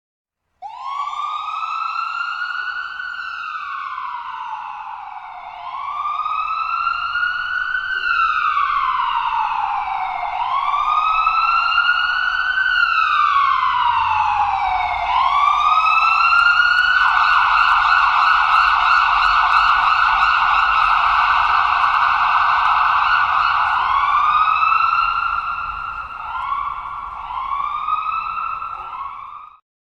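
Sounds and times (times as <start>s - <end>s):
ambulance siren: 0.6s - 29.6s.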